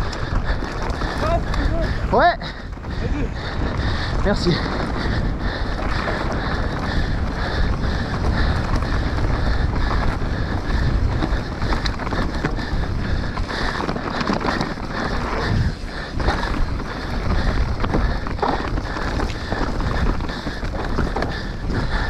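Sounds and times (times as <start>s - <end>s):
bike rattles and clicks: 0.0s - 22.0s
tyres rumbling on dirt: 0.0s - 22.0s
wind buffeting microphone: 0.0s - 22.0s.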